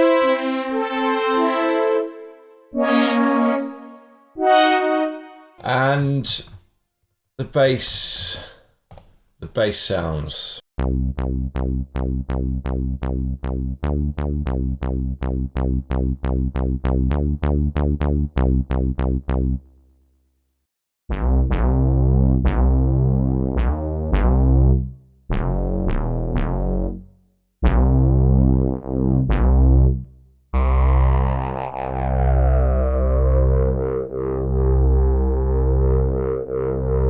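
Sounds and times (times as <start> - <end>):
synthesizer bass notes: 0.0 - 5.8, 10.8 - 19.7, 21.1 - 37.0.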